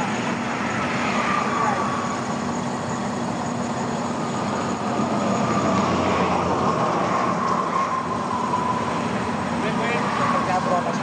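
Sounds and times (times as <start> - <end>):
diesel machinery running: 0.0 - 11.0
high wavering whine: 0.0 - 11.0.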